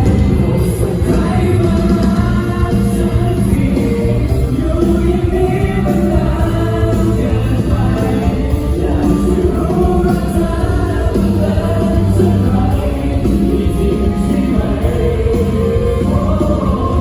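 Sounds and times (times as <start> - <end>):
live band with singing: 0.0 - 17.0.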